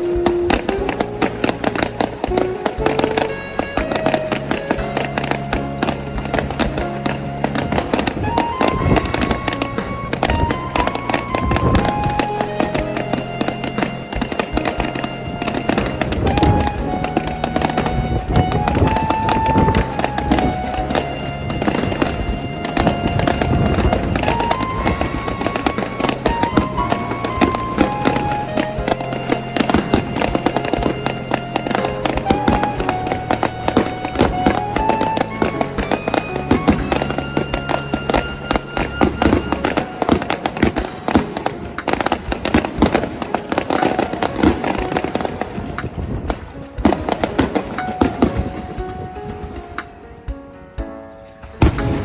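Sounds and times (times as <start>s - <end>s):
fireworks popping and crackling: 0.0s - 50.4s, 51.5s - 52.0s
music with long held notes: 0.0s - 52.0s.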